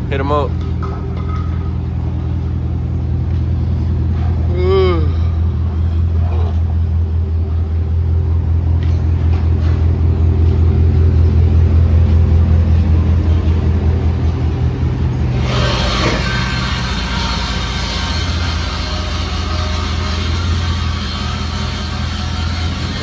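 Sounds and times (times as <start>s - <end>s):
loud rush of noise: 0.0s - 23.0s
truck engine deep drone: 0.0s - 23.0s.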